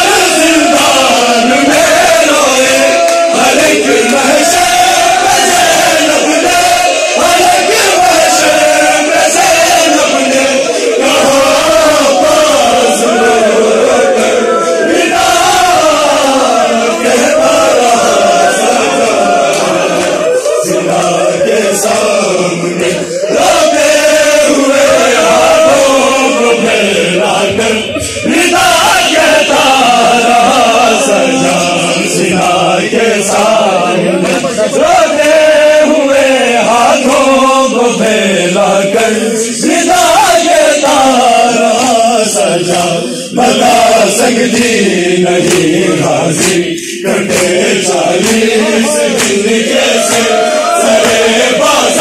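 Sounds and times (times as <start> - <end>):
men chanting in unison: 0.0 - 52.0
reciters singing into microphone: 0.0 - 52.0.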